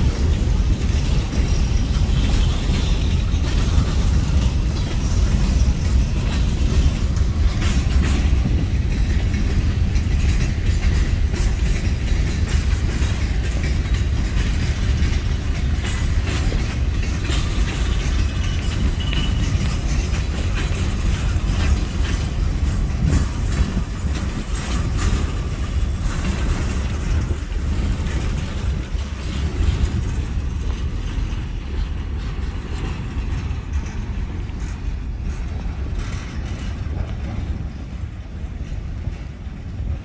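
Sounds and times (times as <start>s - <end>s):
freight train rumbling: 0.0s - 40.0s
train wheel clatter: 0.0s - 40.0s.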